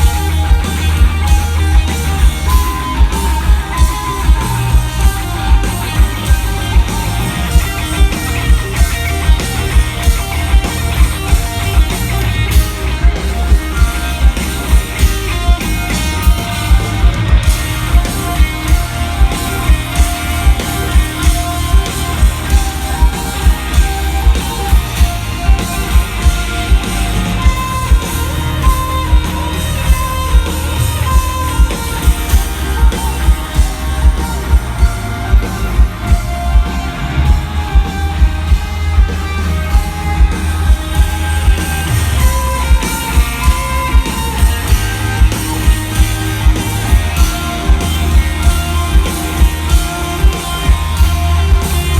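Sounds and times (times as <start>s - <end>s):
heavy drum beat: 0.0s - 51.9s
live rock band playing: 0.0s - 51.9s.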